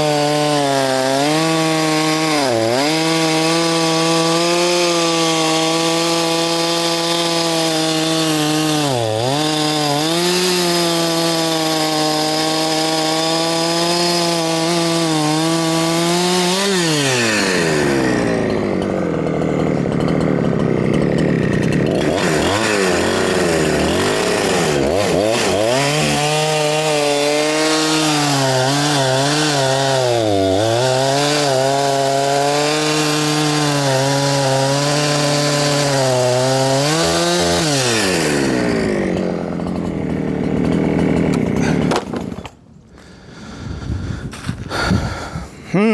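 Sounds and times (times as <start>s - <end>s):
chainsaw engine running: 0.0s - 45.9s.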